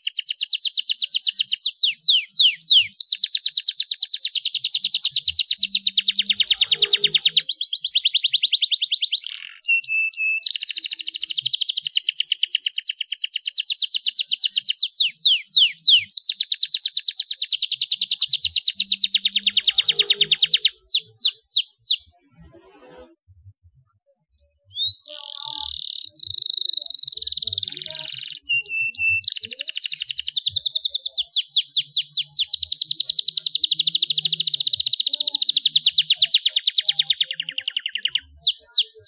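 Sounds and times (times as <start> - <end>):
canary singing fast trills: 0.0 - 22.5, 24.2 - 39.0.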